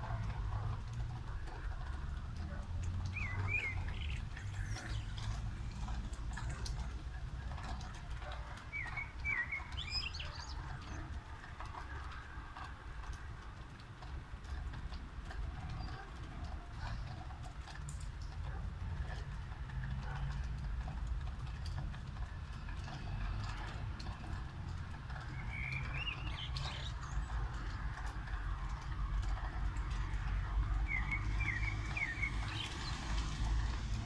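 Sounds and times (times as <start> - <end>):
drips ticking: 0.0 - 34.0
steady rain: 0.0 - 34.0.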